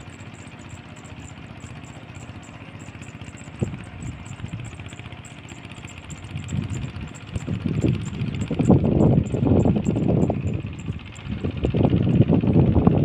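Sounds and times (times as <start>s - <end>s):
faint high ticking: 0.0s - 12.4s
locomotive engine running: 0.0s - 13.0s
uneven low rumbling: 2.1s - 13.0s.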